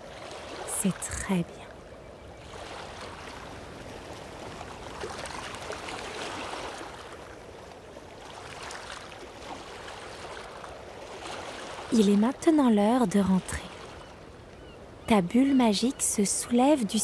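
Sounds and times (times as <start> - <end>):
ocean waves on a beach: 0.0 - 17.0.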